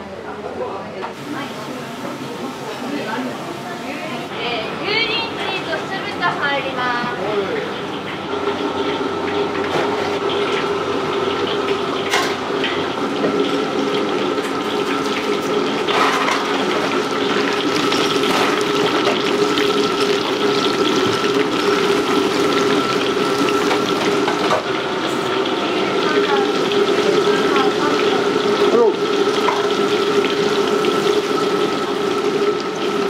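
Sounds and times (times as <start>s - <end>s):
water running: 1.2s - 33.0s.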